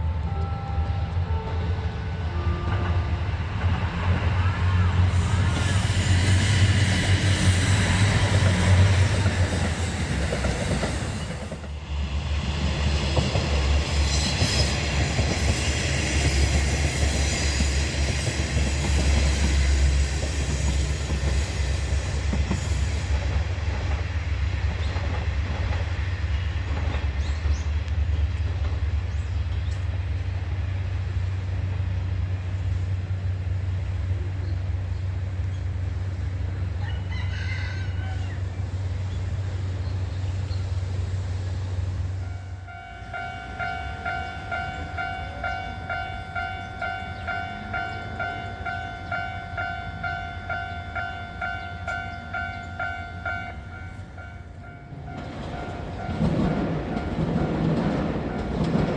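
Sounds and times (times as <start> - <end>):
train wheels on rails: 0.0 - 58.9.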